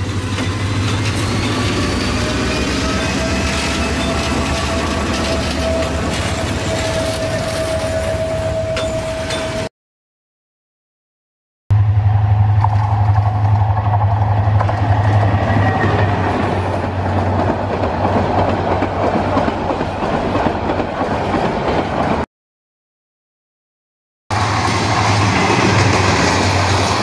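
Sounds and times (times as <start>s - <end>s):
train rumbling past: 0.0s - 9.7s, 11.7s - 22.3s, 24.3s - 27.0s.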